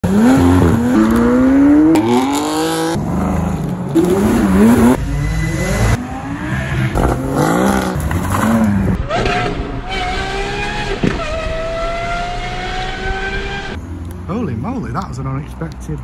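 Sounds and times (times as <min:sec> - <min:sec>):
engine revving: 0:00.0 - 0:13.8.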